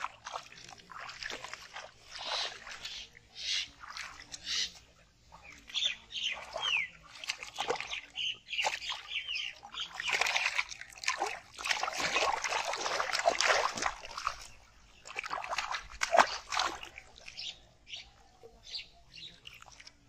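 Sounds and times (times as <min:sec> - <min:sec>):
muddy water splashing: 0:00.0 - 0:20.0.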